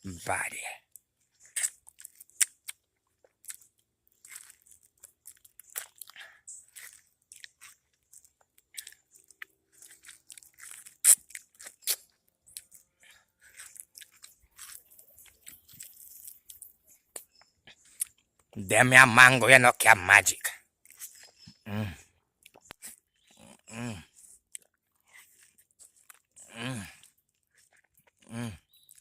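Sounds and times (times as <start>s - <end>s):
man chewing with mouth clicks: 0.8s - 18.6s, 20.6s - 29.0s.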